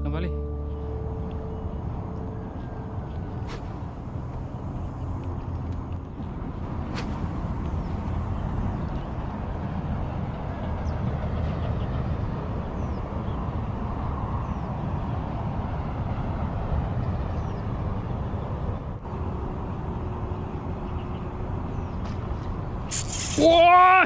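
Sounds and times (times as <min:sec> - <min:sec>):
wind rumbling on microphone: 0:01.0 - 0:23.4.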